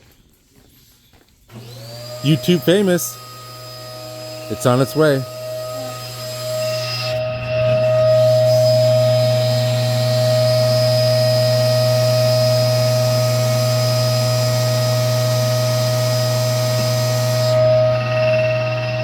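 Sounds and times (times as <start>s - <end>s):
key-cutting machine motor hum: 1.5s - 19.0s
cutter hissing on key blank: 1.6s - 18.8s.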